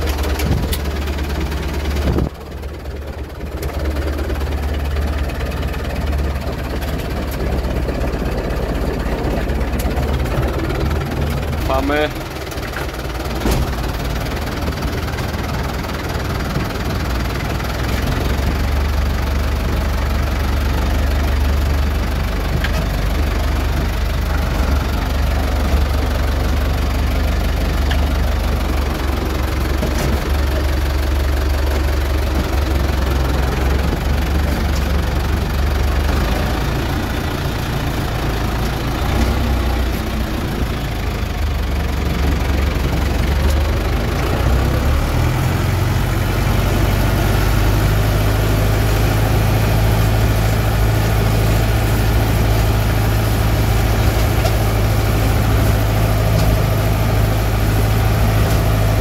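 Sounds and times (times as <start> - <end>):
tractor diesel engine droning: 0.0 - 59.0.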